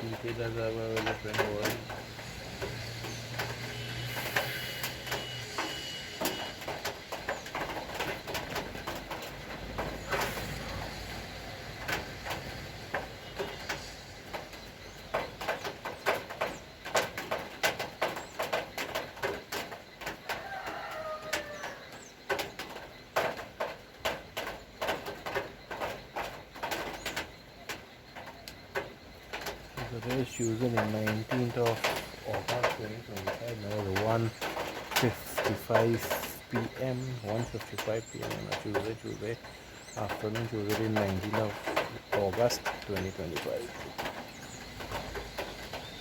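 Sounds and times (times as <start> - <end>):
rain dripping on hard surface: 0.0 - 46.0.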